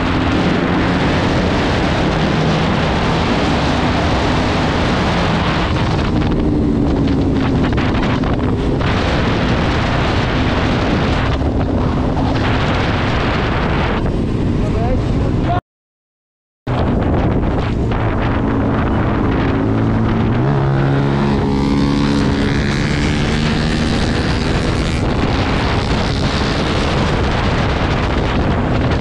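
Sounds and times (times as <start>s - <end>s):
wind noise on microphone: 0.0s - 15.6s, 16.7s - 29.0s.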